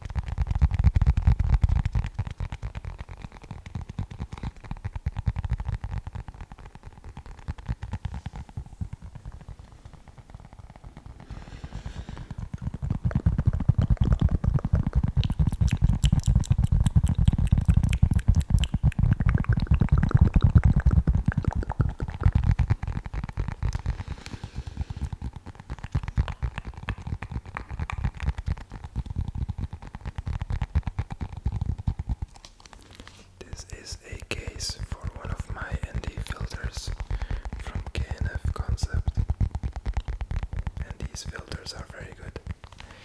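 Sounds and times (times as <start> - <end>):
tapping and scratching on object: 0.0 - 43.0.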